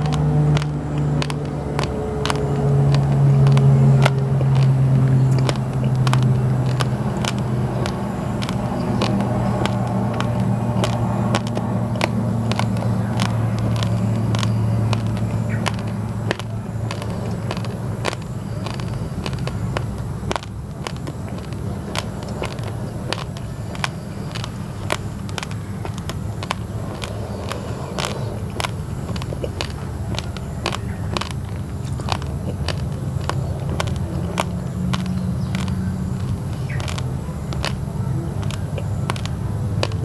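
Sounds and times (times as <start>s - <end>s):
low engine hum: 0.0s - 40.0s
rice grains crunched between teeth: 0.0s - 40.0s.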